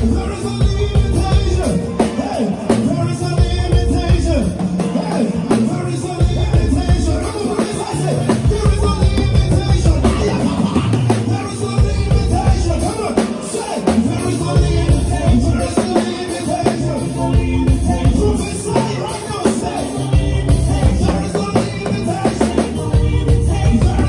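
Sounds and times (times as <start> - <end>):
drum kit: 0.0 - 24.0
heavy bass line: 0.0 - 24.0
live band playing upbeat groove: 0.0 - 24.0.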